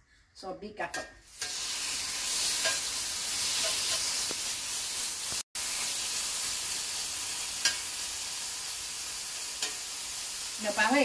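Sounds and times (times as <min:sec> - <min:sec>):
chicken sizzling on a griddle: 0:01.3 - 0:11.0.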